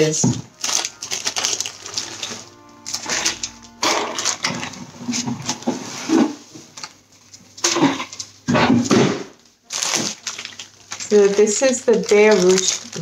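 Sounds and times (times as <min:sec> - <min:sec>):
plastic bag crinkling: 0:00.0 - 0:08.3, 0:09.6 - 0:13.0.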